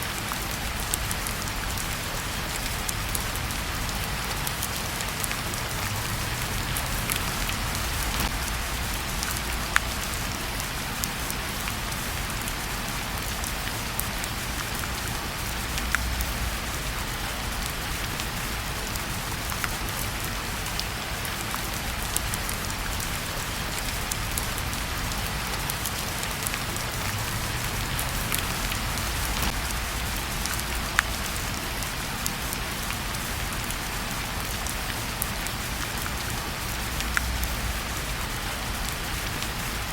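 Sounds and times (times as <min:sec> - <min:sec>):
steady rain falling: 0:00.0 - 0:39.9
wood fire crackling: 0:00.2 - 0:21.0, 0:21.7 - 0:34.9.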